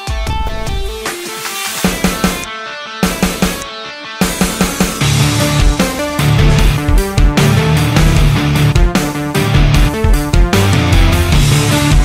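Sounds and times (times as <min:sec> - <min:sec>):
loud rock music with guitar: 0:00.0 - 0:12.0.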